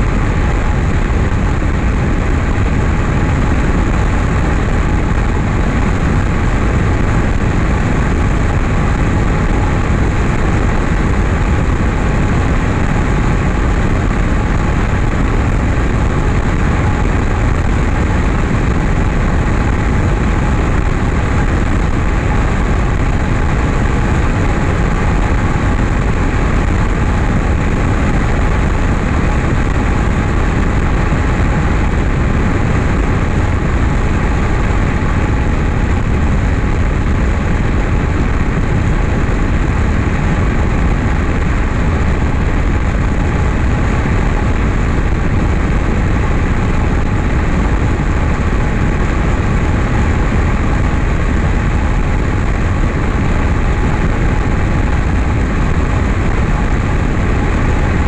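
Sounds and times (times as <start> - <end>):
light aircraft engine drone: 0.0 - 58.0
rushing wind: 0.0 - 58.0.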